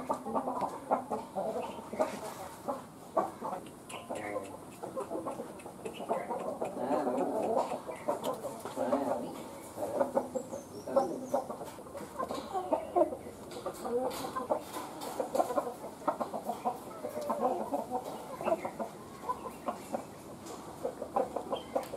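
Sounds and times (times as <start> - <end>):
chickens clucking: 0.0 - 21.9.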